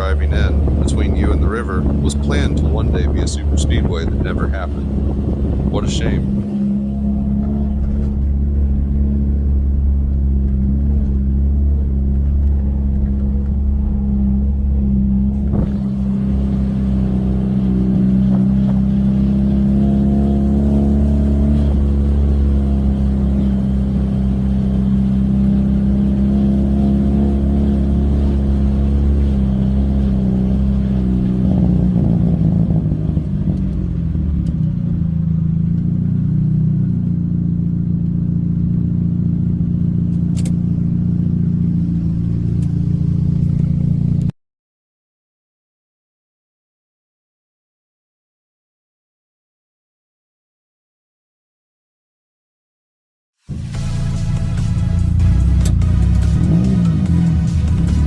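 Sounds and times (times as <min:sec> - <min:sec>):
car engine running: 0:00.0 - 0:44.3, 0:53.5 - 0:58.0.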